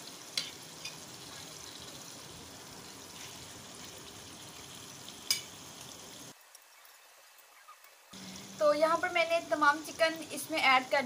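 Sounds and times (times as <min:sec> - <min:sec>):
meat sizzling in hot oil: 0:00.0 - 0:06.8, 0:08.1 - 0:11.0.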